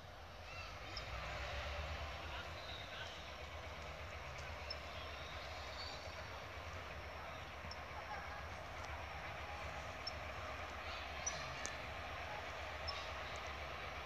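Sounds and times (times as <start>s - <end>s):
freight train low rumble: 0.0s - 14.0s.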